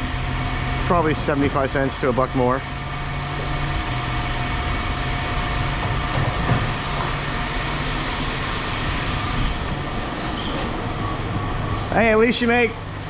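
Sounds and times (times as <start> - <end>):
machine hiss and hum: 0.0 - 13.0.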